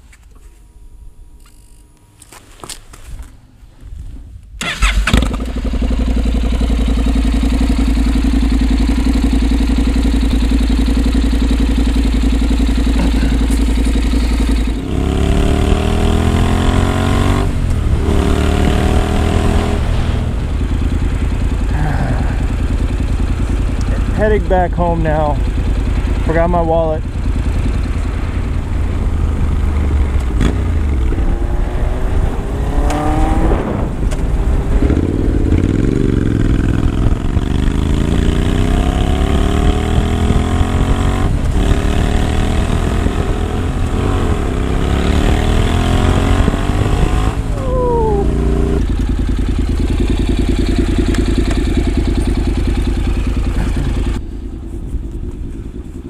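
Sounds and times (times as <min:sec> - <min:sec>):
motorcycle engine accelerating: 0:04.0 - 0:56.0.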